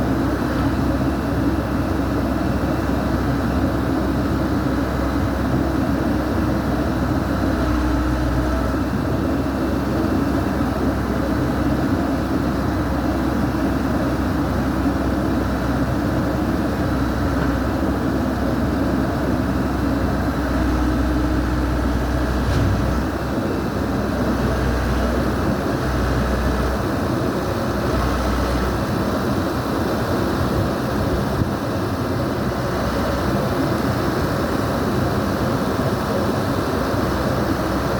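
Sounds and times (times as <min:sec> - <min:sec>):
backhoe diesel engine rumbling: 0:00.0 - 0:37.9.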